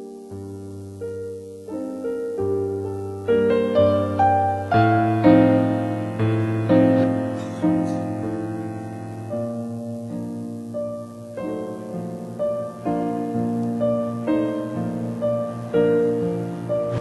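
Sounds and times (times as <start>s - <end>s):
slow soft piano music: 0.0s - 17.0s.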